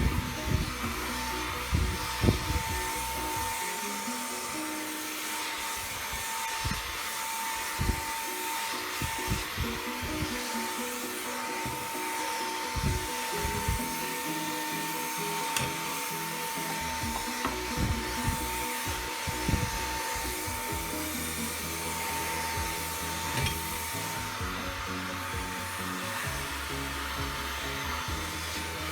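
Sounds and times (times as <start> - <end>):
background music with beat: 0.0 - 5.4, 7.8 - 28.9
stick vacuum whining: 0.0 - 28.9.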